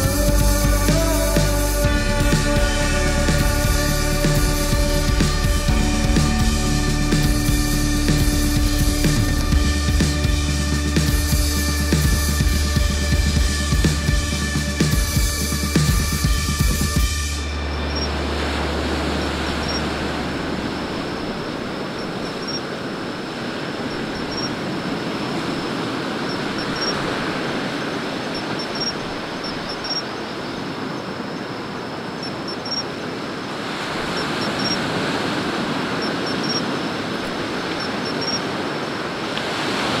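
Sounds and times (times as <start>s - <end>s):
waves breaking on a beach: 0.0s - 40.0s.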